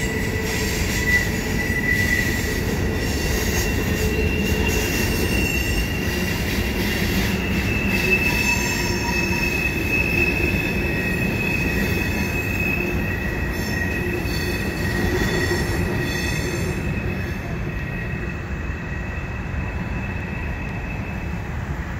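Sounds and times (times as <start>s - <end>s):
train wheels squealing: 0.0s - 21.8s
low rumble of rail cars: 0.0s - 21.9s.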